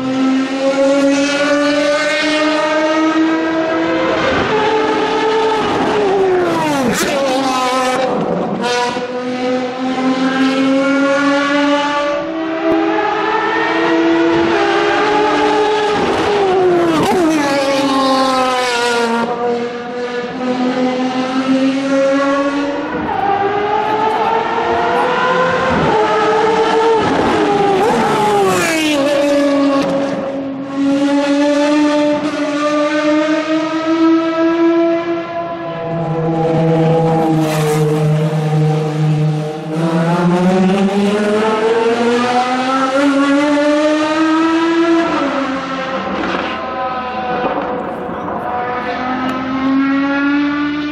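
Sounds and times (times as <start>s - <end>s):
race car engines at full throttle: 0.0s - 50.9s.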